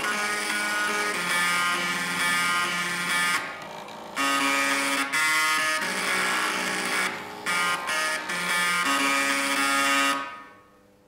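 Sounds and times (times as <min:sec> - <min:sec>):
floppy drive motors buzzing melody: 0:00.0 - 0:10.5.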